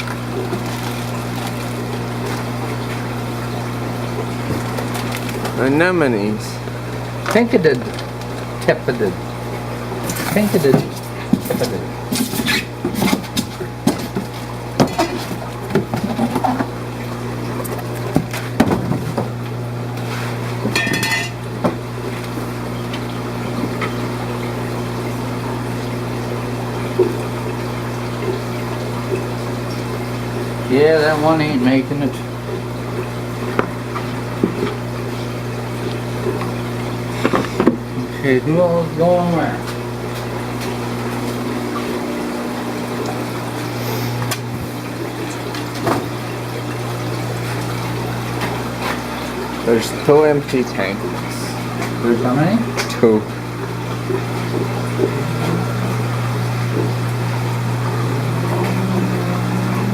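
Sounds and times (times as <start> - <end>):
aquarium pumps humming: 0.0 - 59.9
water moving: 0.0 - 59.9.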